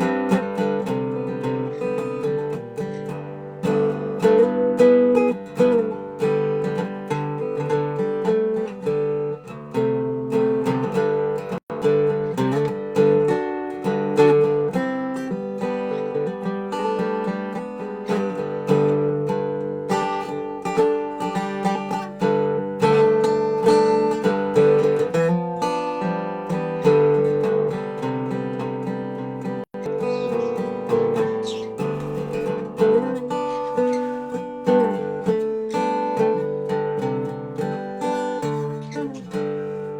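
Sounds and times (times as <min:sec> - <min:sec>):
resonator guitar picking: 0:00.0 - 0:39.9.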